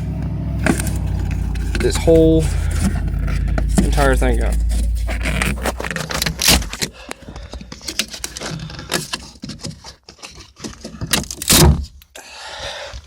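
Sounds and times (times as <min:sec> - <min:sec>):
plastic crackling: 0:00.6 - 0:11.6
clicks and scrapes: 0:00.6 - 0:12.1.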